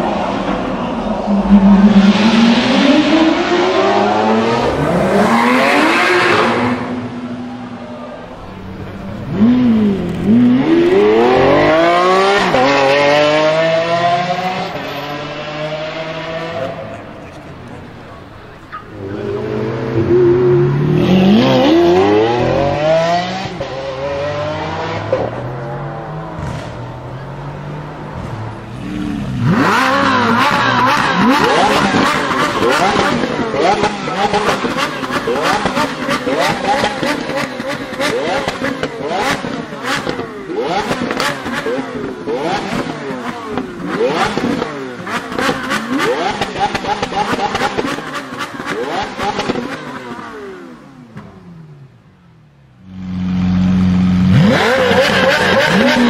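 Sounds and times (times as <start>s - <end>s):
car engine accelerating in tunnel: 0.0s - 56.0s
second car engine revving: 8.4s - 52.1s, 52.7s - 56.0s.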